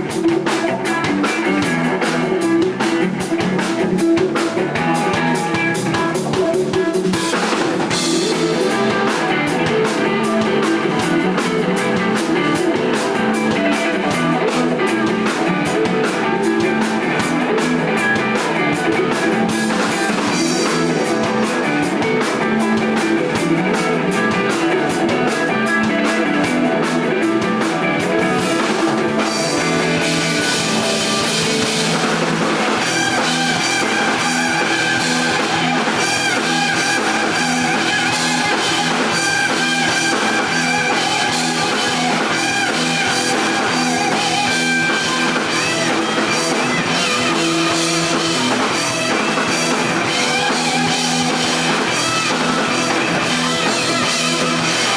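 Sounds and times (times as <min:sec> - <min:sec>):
drum kit: 0:00.0 - 0:54.9
electric guitar: 0:00.0 - 0:54.9.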